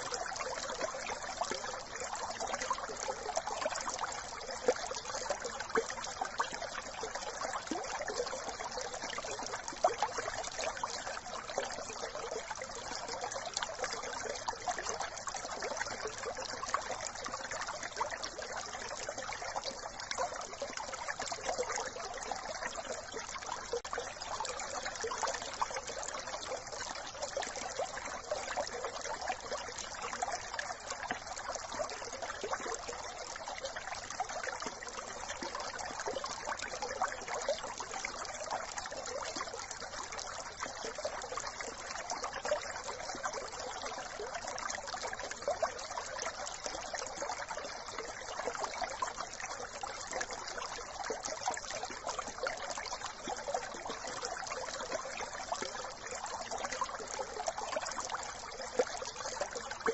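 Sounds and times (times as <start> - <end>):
brook running over stones: 0.0 - 59.9.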